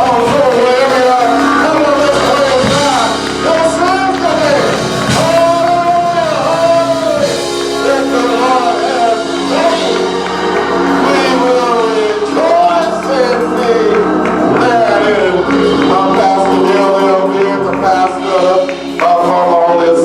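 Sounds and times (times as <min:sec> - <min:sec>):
gospel singing: 0:00.0 - 0:20.0
sustained keyboard chords: 0:00.0 - 0:20.0.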